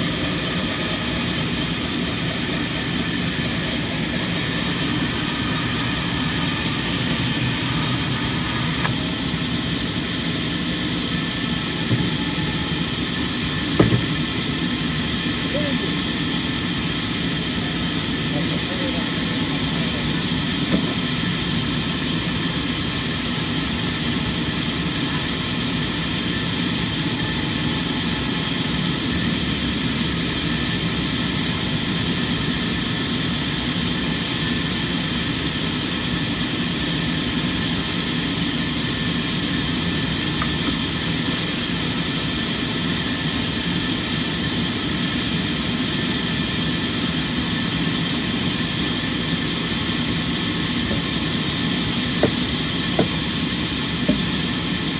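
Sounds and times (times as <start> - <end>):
sawmill machinery drone: 0.0 - 54.9.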